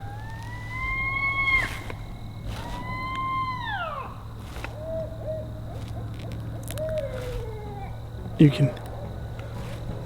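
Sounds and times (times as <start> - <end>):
coyotes howling: 0.0 - 10.0.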